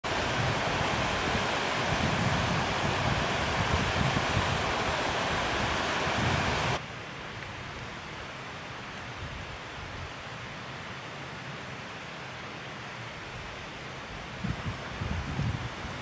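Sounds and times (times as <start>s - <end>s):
waterfall rushing and splashing: 0.0s - 16.0s.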